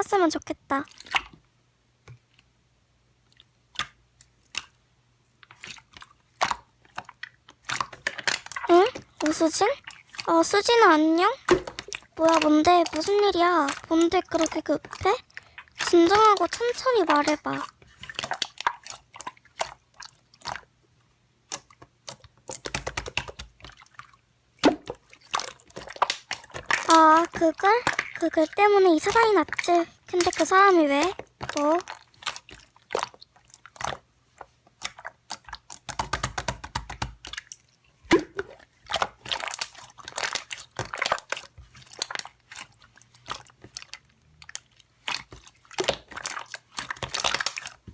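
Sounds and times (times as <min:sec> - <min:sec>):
slime squished by hand: 0:05.4 - 0:20.7, 0:21.4 - 0:47.9.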